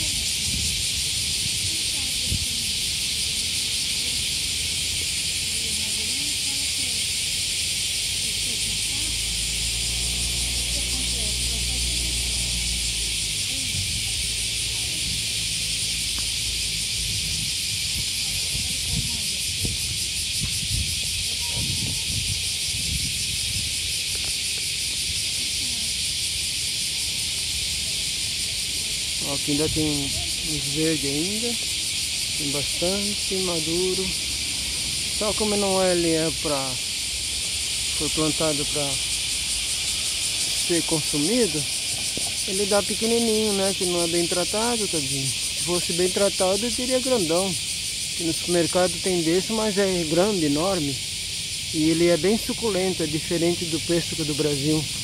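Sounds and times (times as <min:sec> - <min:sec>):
cicadas singing: 0:00.0 - 0:55.0.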